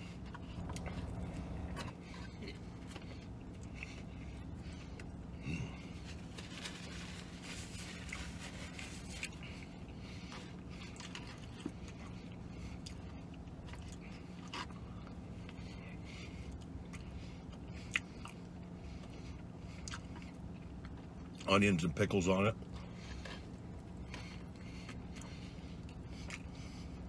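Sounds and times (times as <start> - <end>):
man chewing food: 0.0 - 21.5, 22.6 - 27.0
steady low hum: 0.0 - 27.0.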